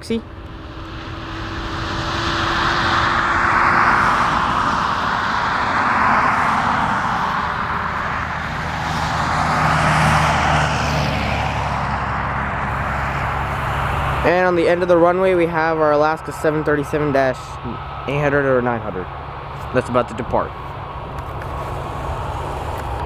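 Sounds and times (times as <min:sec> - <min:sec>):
jet engines roaring: 0:00.0 - 0:23.0
low steady hum: 0:00.0 - 0:23.0.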